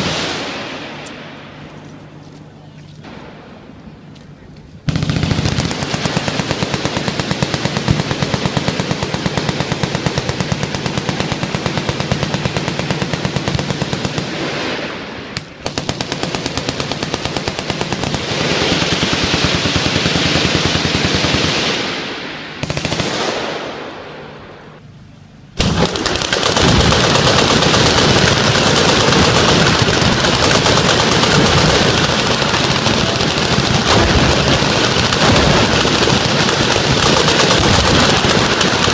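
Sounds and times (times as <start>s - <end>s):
machine-gun fire: 0.0s - 1.6s, 4.8s - 24.6s, 25.6s - 38.9s.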